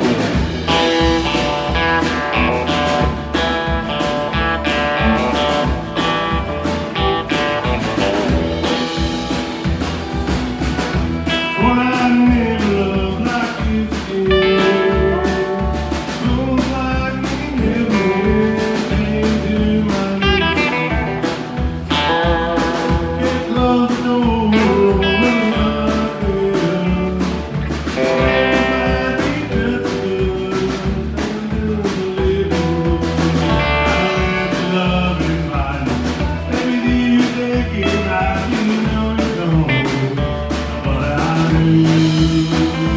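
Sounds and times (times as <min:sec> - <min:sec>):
country band playing: 0:00.0 - 0:42.9
electric guitar lead: 0:00.0 - 0:42.9
person singing: 0:00.0 - 0:42.9.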